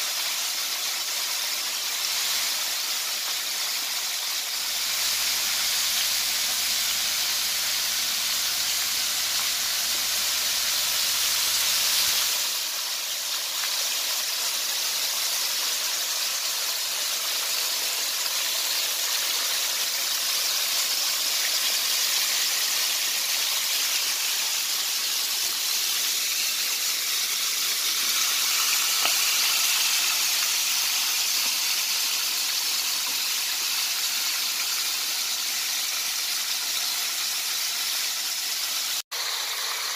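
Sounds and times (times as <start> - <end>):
hot oil sizzling and bubbling: 0.0 - 39.9.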